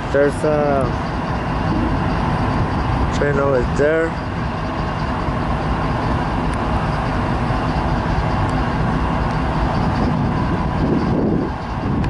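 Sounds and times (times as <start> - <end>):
locomotive engine rumbling: 0.0 - 12.0.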